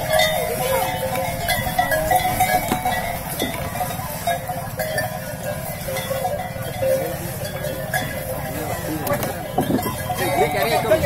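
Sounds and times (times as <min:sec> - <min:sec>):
ox bells clanking: 0:00.0 - 0:11.0.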